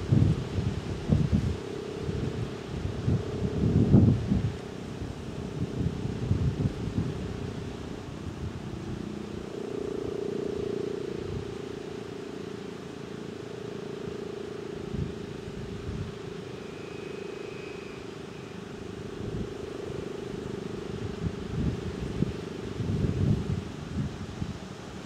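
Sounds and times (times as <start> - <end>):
wind buffeting microphone: 0.0 - 12.6, 14.2 - 25.0
warning siren steady tone: 0.0 - 24.7.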